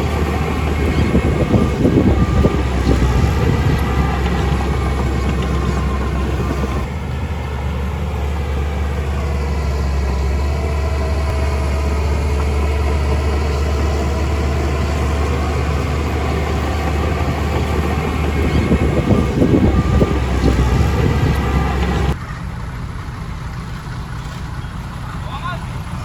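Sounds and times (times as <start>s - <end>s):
construction machine diesel engine: 0.0s - 26.0s.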